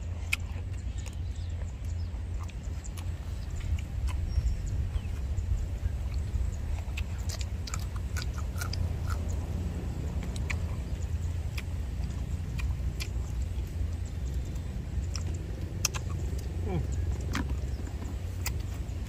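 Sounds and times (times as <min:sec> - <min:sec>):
close chewing with mouth clicks: 0:00.0 - 0:19.0
steady low rumble: 0:00.0 - 0:19.0.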